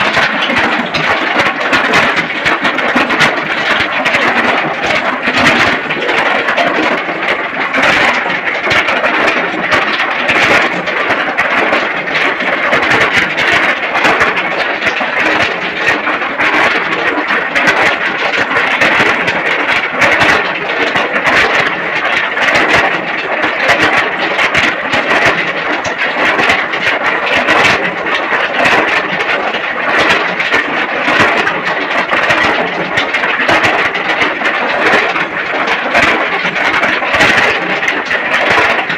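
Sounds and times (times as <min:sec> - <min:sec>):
machine rattling loudly: 0:00.0 - 0:38.9.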